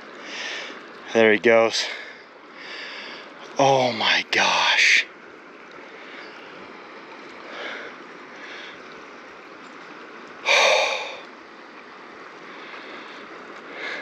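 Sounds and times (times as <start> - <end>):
flowing river water: 0.0 - 14.0.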